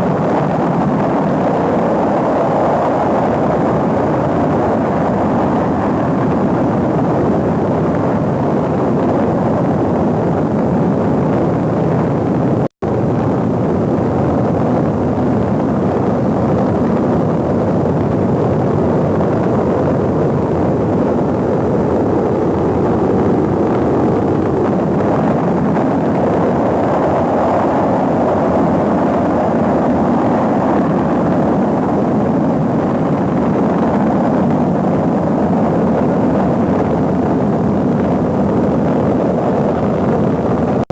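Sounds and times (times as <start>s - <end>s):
rocket engine roaring: 0.0s - 40.9s.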